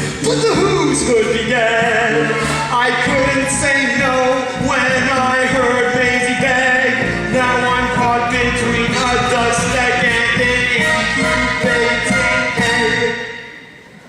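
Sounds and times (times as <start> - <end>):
person singing: 0.0 - 13.6
instrumental accompaniment: 0.0 - 14.0.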